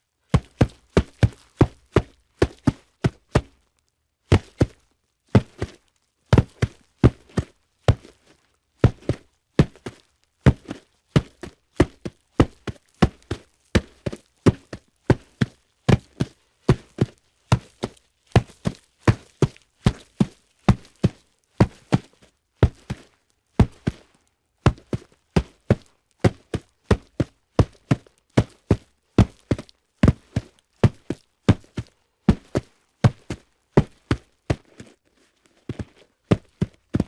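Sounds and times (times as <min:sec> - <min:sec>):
footsteps on hard surface: 0:06.4 - 0:24.1, 0:24.7 - 0:37.0.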